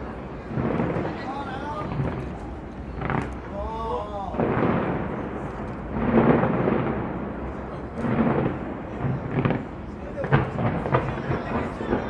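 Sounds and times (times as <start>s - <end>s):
crowd voices: 0.0s - 12.0s
fireworks booming: 0.0s - 12.0s
fireworks crackle: 0.0s - 12.0s.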